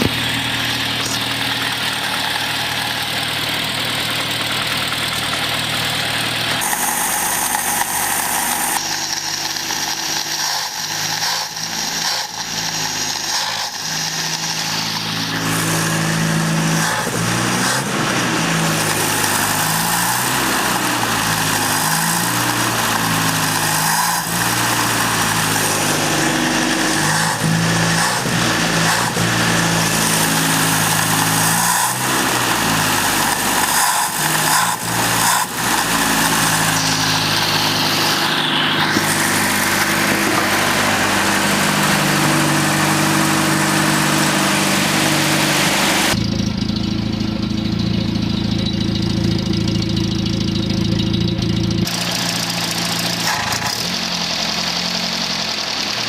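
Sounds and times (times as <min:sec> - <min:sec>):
engine running and stumbling: 0:00.0 - 0:56.0.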